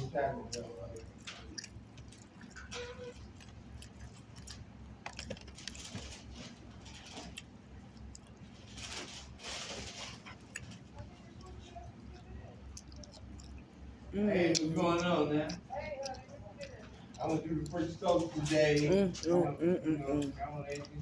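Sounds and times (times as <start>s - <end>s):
low steady hum: 0.0s - 21.0s
small eating clicks: 0.0s - 21.0s.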